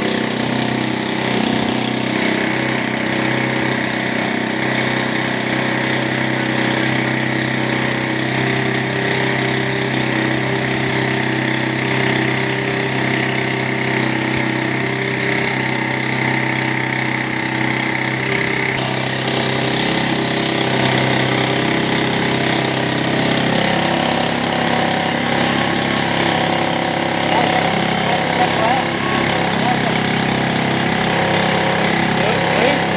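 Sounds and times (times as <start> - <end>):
air compressor pump: 0.0 - 32.9
motorcycle engine running steadily: 0.0 - 32.9.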